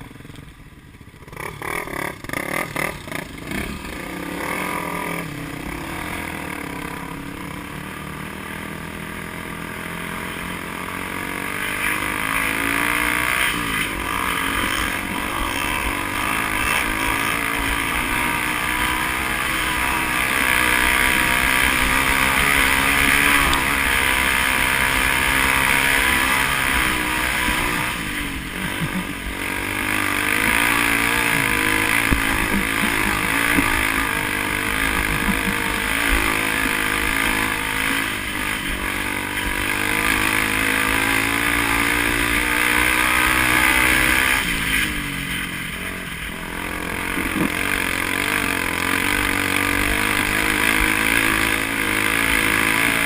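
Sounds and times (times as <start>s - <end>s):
road and wind noise: 0.0s - 53.0s
vehicle engine accelerating: 1.0s - 53.0s.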